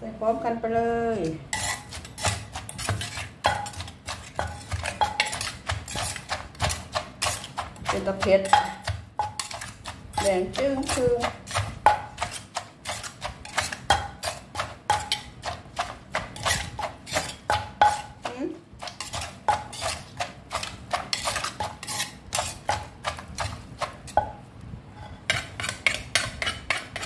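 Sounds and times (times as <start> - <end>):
metal spoon mixing salad: 1.1 - 27.0
wooden pestle knocking in mortar: 2.2 - 24.4.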